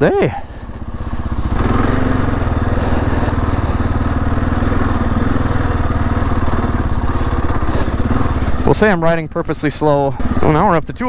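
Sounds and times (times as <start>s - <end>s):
motorcycle engine at low speed: 0.0s - 11.0s.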